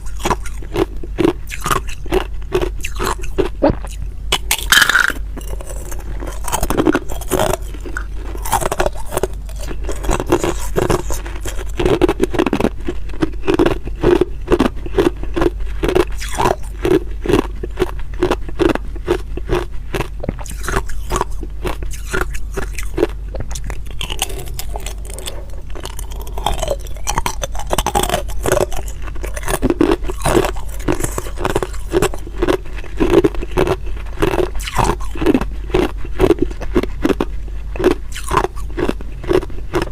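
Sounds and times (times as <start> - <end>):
ice crunching being chewed: 0.0 - 39.9
low hum: 0.0 - 39.9.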